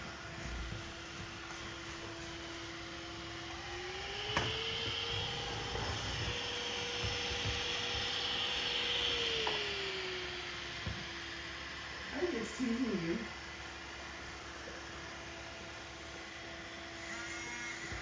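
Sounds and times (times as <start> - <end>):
robot vacuum motor whining: 0.0 - 18.0.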